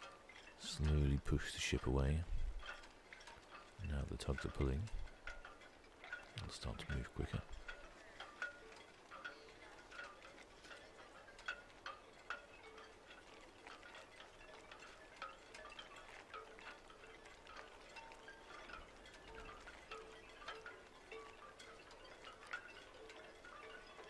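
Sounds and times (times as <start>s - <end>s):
light ticks: 0.0s - 24.0s.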